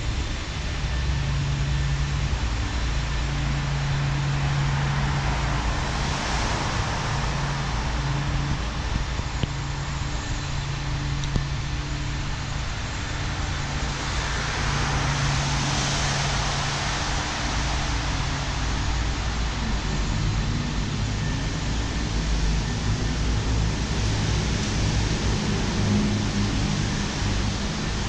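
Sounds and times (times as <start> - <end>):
low steady hum: 0.0 - 28.0
traffic noise in underpass: 0.0 - 28.0.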